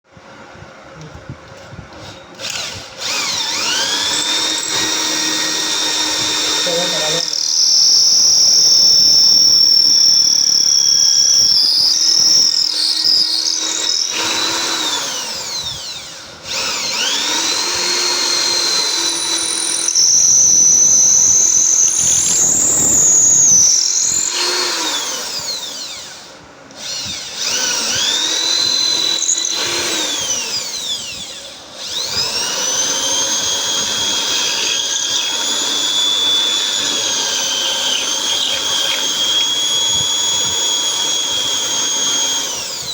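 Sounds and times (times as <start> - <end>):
electric drill motor whining: 1.9 - 42.9.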